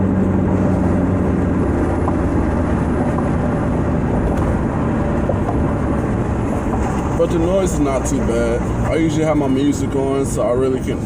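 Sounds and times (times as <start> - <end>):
car engine droning: 0.0 - 11.0
road and wind noise: 0.0 - 11.0.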